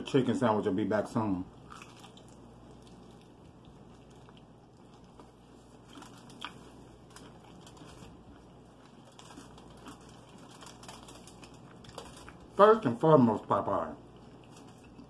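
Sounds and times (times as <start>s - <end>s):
chewing crispy fried chicken: 1.0s - 12.8s, 13.4s - 15.0s.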